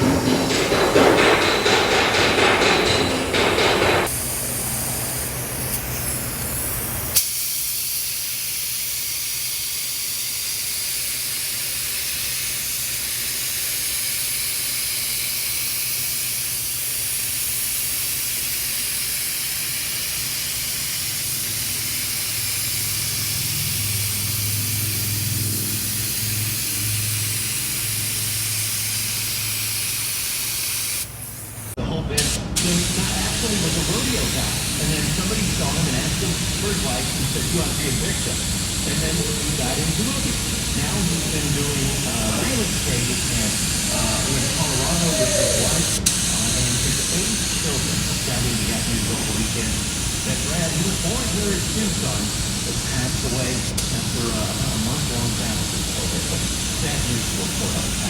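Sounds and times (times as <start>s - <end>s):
paint spray gun hissing: 0.0s - 58.0s.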